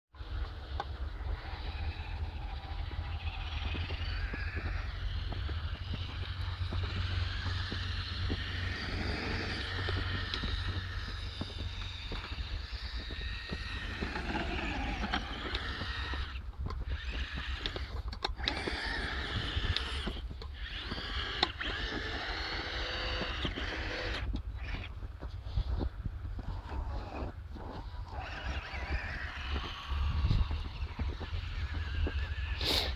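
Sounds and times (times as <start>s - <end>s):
electric motor whining: 0.2s - 24.9s, 26.3s - 32.9s
low rumble: 0.2s - 32.9s.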